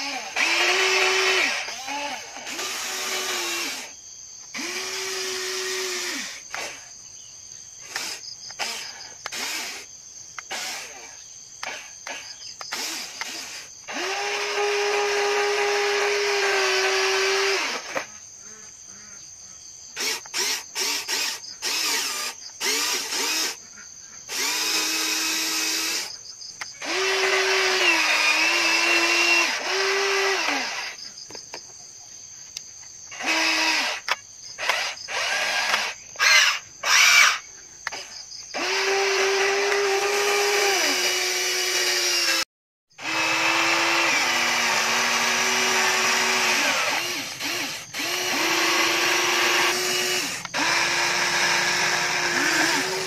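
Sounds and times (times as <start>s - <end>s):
toy excavator electric motors whining: 0.0s - 7.0s, 7.8s - 18.7s, 19.9s - 31.6s, 32.5s - 53.0s.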